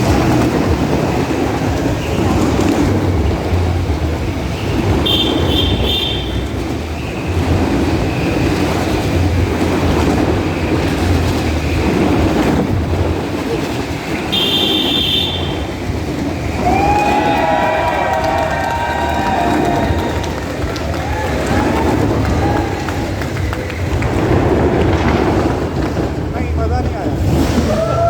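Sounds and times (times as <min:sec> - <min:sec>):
motorcycle engines passing: 0:00.0 - 0:28.0.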